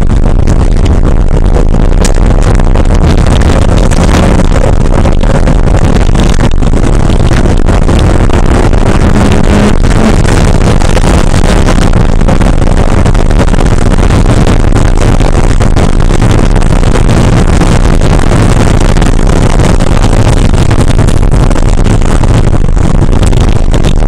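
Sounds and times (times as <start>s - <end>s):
car engine running hard: 0.0s - 24.0s
wind and road noise: 0.0s - 24.0s.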